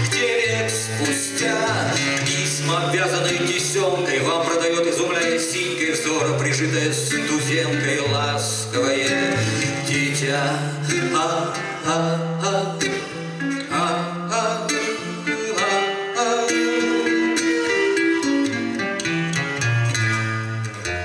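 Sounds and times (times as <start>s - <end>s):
man singing: 0.0s - 17.9s
acoustic guitar plucked: 0.0s - 21.0s.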